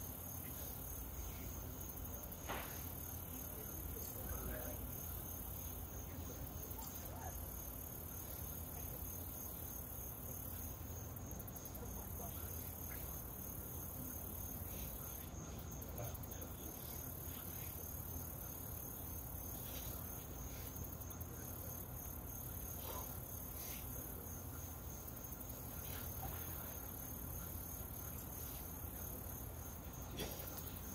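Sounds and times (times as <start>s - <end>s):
background hiss: 0.0s - 30.9s
insects trilling: 0.0s - 30.9s.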